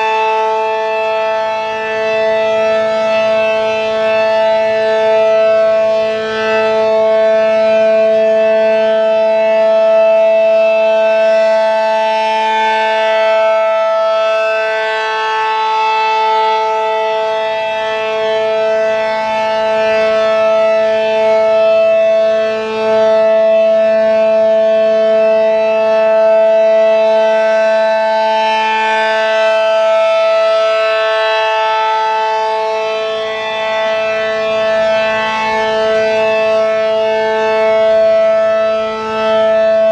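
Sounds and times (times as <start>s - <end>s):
rotating siren two-tone wail: 0.0s - 39.9s.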